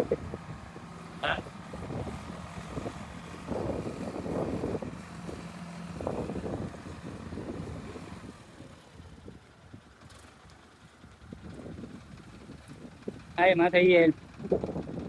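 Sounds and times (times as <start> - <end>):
diesel machinery engine humming: 0.0 - 15.0.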